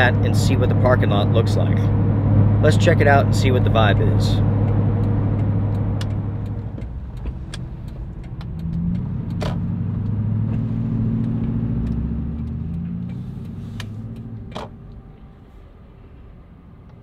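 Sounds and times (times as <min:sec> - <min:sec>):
engine and road hum in a cab: 0:00.0 - 0:17.0.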